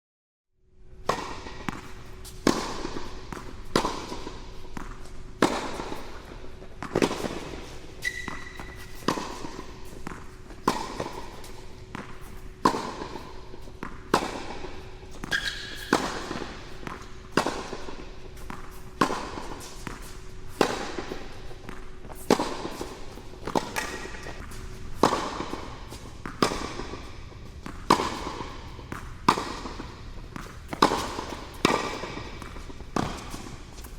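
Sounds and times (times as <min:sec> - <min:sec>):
tennis ball bouncing on court: 0:01.0 - 0:33.9
tennis ball struck by rackets: 0:01.0 - 0:33.9.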